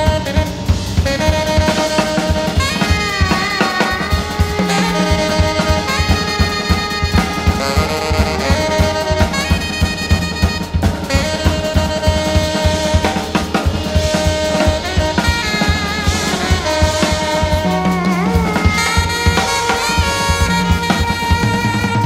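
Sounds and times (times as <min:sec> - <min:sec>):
drum kit playing: 0:00.0 - 0:22.0
saxophone long held notes: 0:00.0 - 0:22.0.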